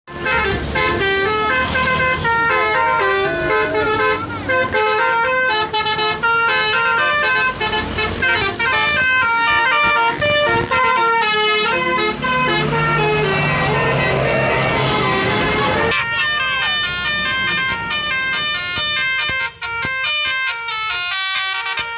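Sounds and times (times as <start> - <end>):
musical air horn tune: 0.1 - 21.9.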